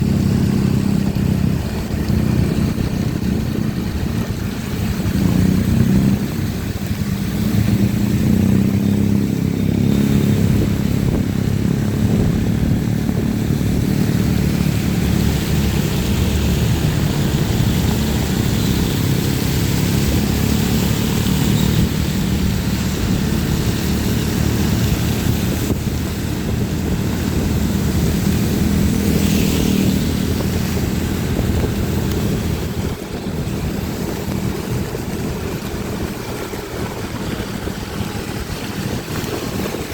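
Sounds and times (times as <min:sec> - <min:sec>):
motorcycle engine running: 0:00.0 - 0:39.9
rain: 0:00.0 - 0:39.9
tyres hissing on wet road: 0:00.0 - 0:39.9.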